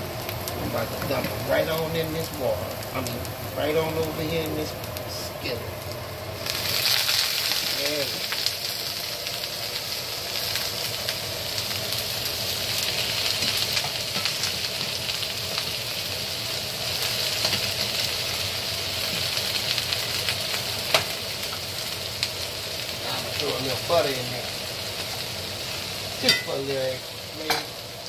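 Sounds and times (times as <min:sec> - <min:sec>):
vegetables sizzling in a skillet: 0:00.0 - 0:28.0.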